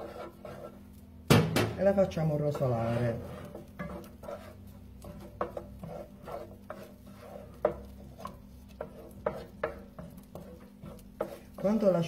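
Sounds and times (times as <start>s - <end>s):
steady low hum: 0.0s - 12.0s
utensil scraping frying pan: 0.0s - 12.0s.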